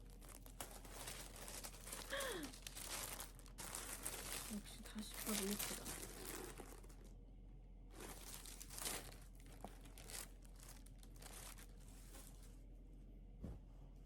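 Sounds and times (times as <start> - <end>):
packaging crinkling: 0.0 - 7.1, 7.9 - 12.4.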